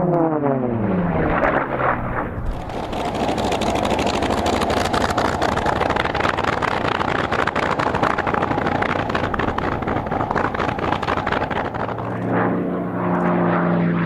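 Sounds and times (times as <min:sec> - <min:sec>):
airplane piston engine running: 0:02.2 - 0:14.0.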